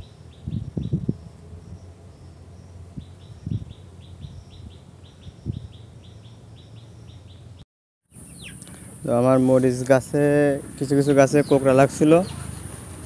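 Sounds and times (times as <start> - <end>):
bird chirping rapidly: 0.0 - 12.9.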